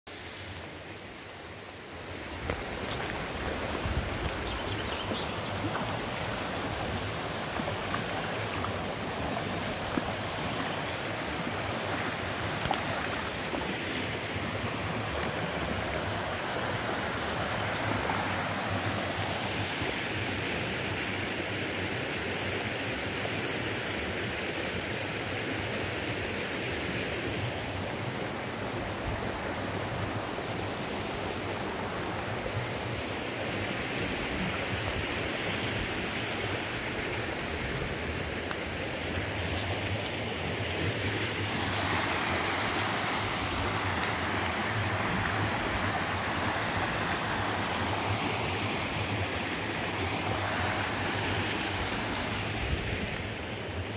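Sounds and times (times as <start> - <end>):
stream running over stones: 0.1 - 53.9.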